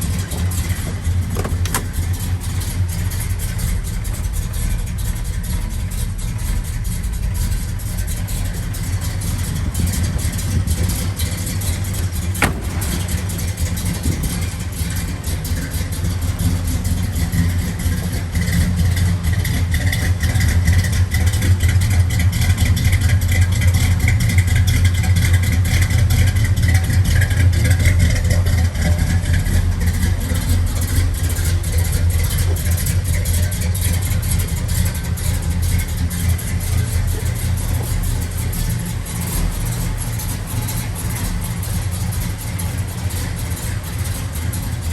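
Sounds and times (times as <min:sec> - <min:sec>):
car engine running: 0:00.0 - 0:44.9.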